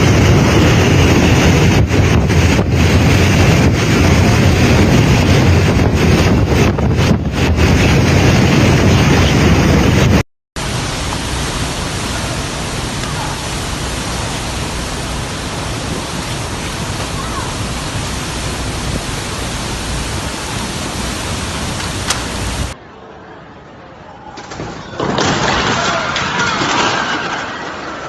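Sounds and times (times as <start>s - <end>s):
strong wind buffeting microphone: 0.0s - 22.8s
steady rushing noise: 0.0s - 23.9s.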